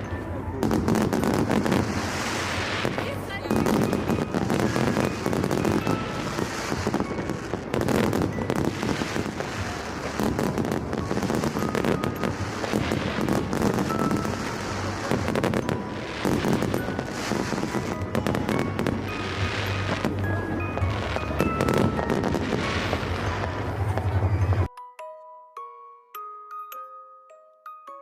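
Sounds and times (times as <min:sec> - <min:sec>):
fireworks crackling: 0:00.0 - 0:24.7
music: 0:00.0 - 0:28.0.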